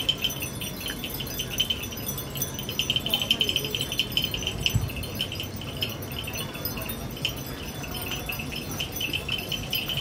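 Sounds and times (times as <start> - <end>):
metal wind chimes tinkling: 0.0 - 10.0.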